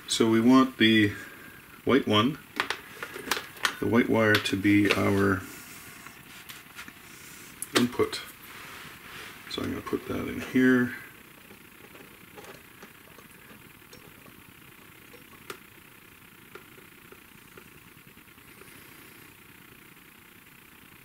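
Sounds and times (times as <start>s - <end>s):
faint soldering hiss: 0.0s - 20.4s.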